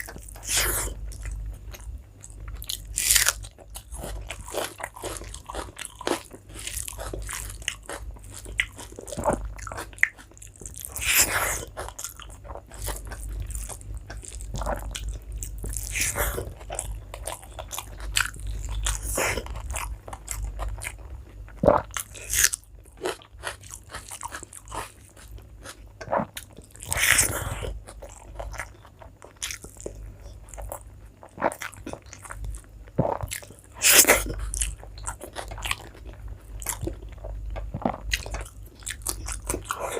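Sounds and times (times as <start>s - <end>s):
sharp crunches while chewing: 0.0s - 21.0s, 21.6s - 39.9s.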